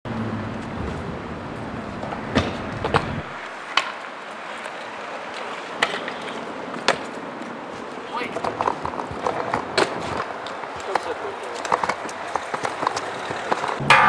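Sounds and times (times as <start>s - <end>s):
outdoor noise hiss: 0.2s - 13.9s.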